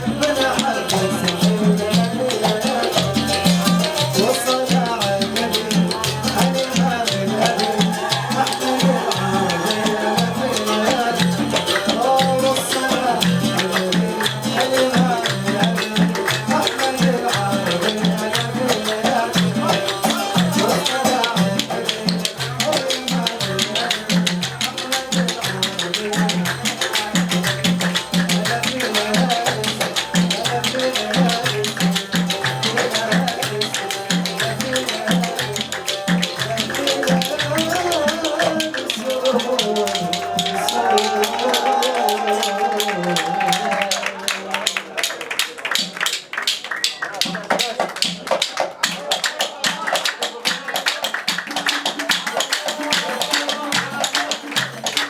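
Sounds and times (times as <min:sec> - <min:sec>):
wedding band music: 0:00.0 - 0:44.3
fast percussion beat: 0:00.0 - 0:55.0.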